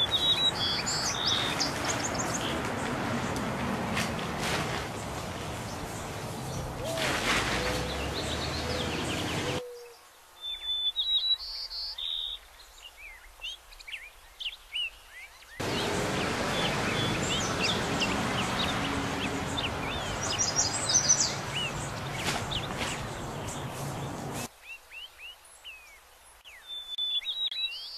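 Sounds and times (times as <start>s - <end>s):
small birds chirping: 0.0s - 3.6s, 4.4s - 27.9s
outdoor background hiss: 0.0s - 27.9s.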